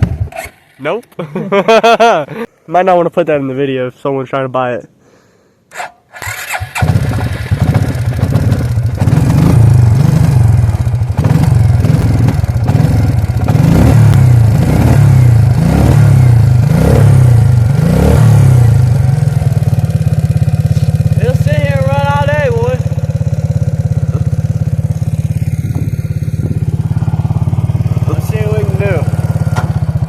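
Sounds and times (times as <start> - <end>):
quad bike engine revving: 0.0 - 0.8, 5.7 - 30.0.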